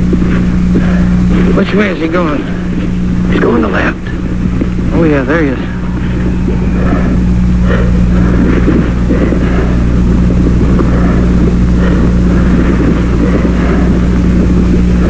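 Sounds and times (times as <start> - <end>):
faint irregular sounds: 0.0 - 15.0
low mechanical hum: 0.0 - 15.0.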